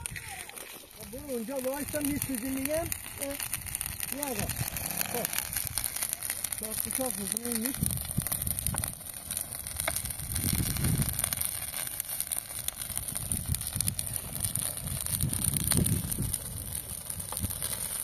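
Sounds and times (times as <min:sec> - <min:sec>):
grass fire crackling: 0:00.0 - 0:18.0
gusty rush of flame: 0:00.0 - 0:18.0.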